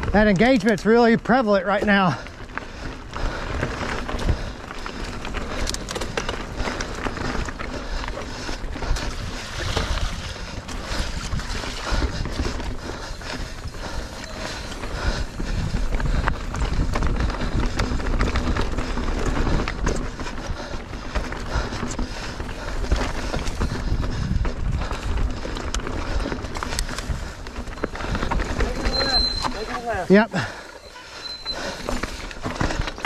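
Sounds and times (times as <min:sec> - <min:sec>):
bike clicking and rattling: 0:00.0 - 0:33.0
tyres rumbling on dirt: 0:00.0 - 0:33.0
wind buffeting microphone: 0:02.3 - 0:29.5.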